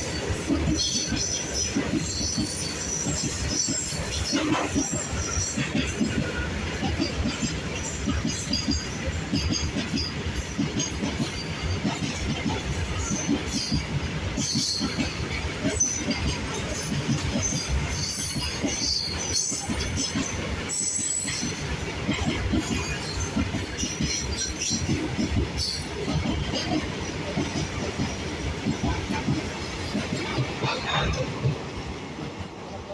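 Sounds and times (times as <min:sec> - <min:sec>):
train wheels rumbling: 0:00.0 - 0:32.9.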